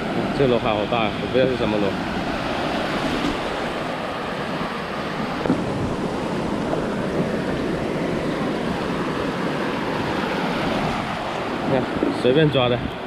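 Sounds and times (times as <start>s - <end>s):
surf washing onto shore: 0.0s - 13.0s
wind: 0.0s - 13.0s.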